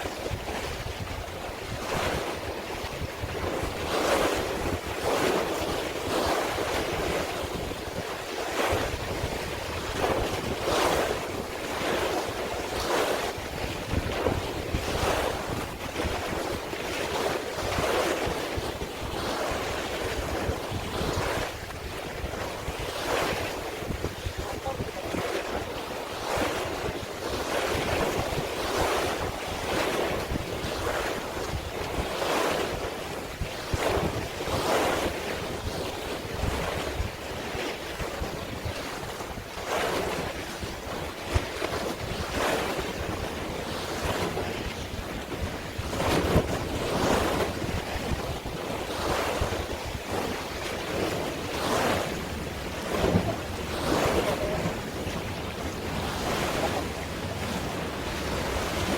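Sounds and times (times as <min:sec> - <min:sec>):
sea waves washing: 0:00.0 - 0:58.9
wind buffeting microphone: 0:00.0 - 0:58.9.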